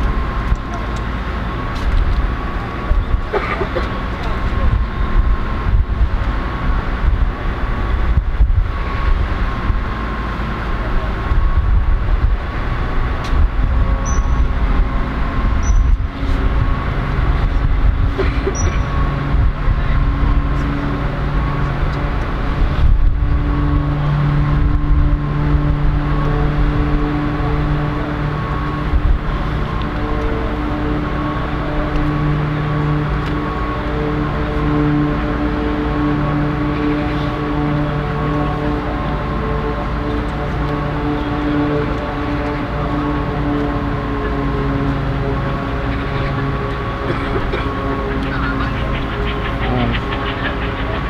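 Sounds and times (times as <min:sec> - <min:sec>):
low hum: 0:00.0 - 0:51.0
steady whine: 0:00.0 - 0:51.0
steam locomotive rumble: 0:00.0 - 0:51.0.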